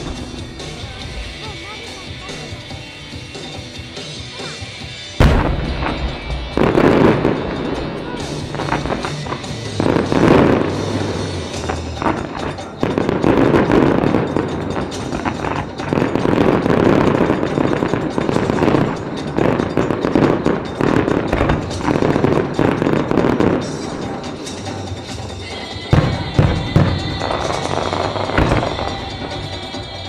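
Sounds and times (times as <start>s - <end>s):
fireworks popping and crackling: 0.0s - 30.0s
music: 0.0s - 30.0s.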